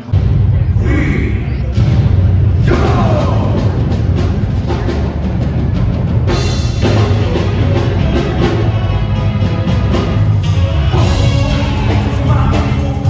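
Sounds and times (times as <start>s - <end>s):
loud music with heavy drums: 0.0s - 13.0s.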